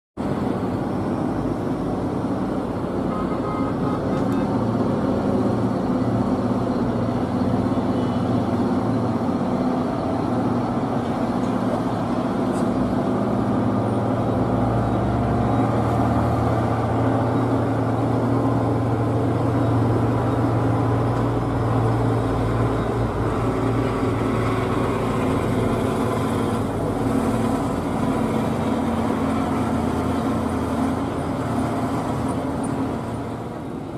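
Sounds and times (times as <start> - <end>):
truck engine running: 4.7 - 33.9.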